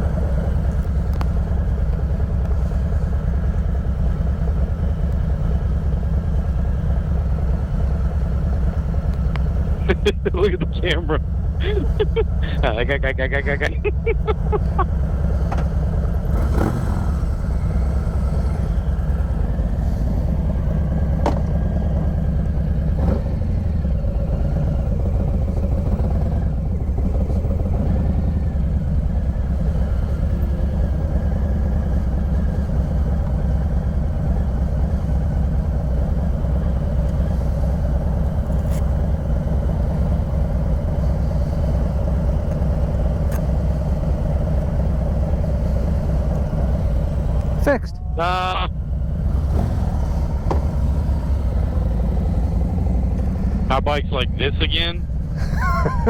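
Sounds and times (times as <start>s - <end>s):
motorcycle engine running: 0.0s - 12.7s, 13.6s - 54.4s.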